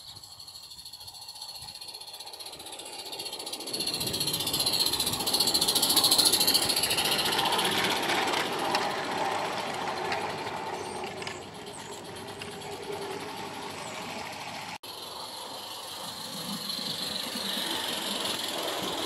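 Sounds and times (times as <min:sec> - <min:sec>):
carriages rattling on rails: 0:00.0 - 0:19.0
steam locomotive chuffing: 0:00.0 - 0:19.0.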